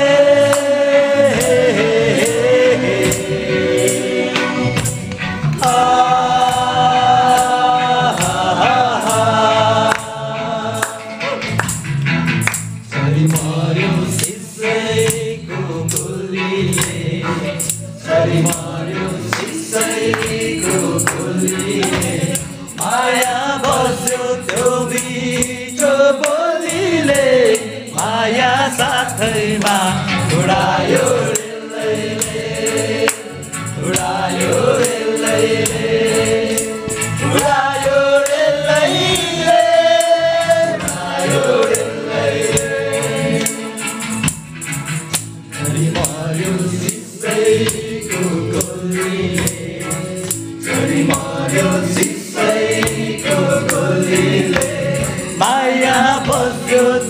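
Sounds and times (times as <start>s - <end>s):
group of men singing: 0.0s - 11.9s, 12.8s - 57.0s.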